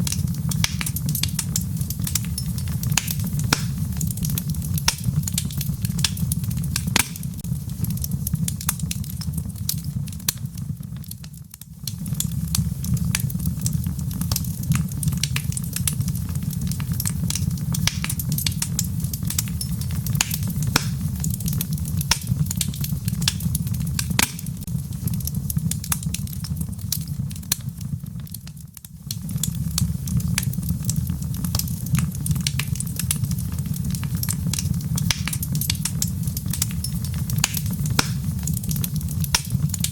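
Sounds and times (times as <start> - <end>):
gentle rain: 0.0 - 39.9
wood fire crackling and popping: 0.0 - 39.9.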